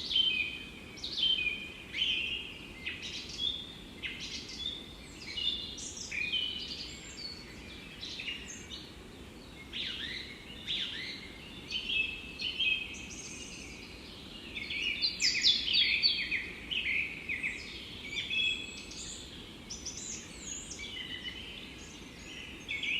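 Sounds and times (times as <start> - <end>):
songbirds chirping and trilling: 0.0 - 22.9.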